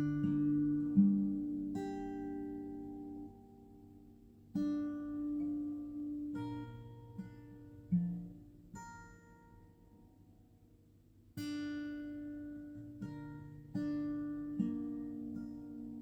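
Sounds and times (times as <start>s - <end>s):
acoustic guitar plucked notes: 0.0s - 10.2s, 11.4s - 16.0s.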